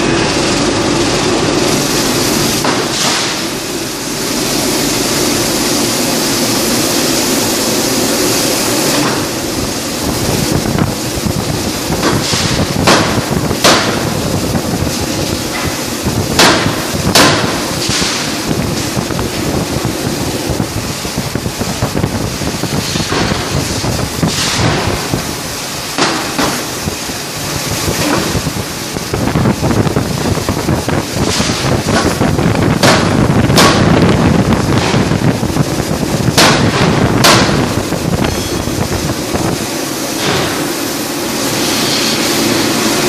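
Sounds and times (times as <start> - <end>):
machine noise: 0.0 - 43.0.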